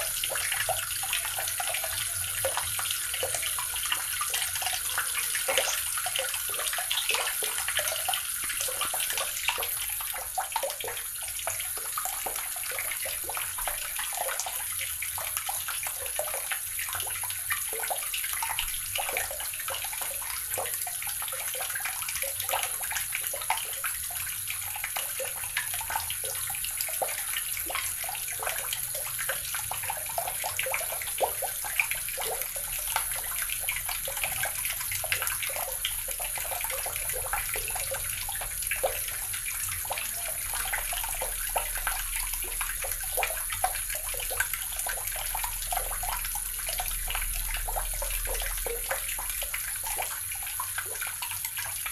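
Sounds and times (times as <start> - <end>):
water running from a tap: 0.0 - 51.9.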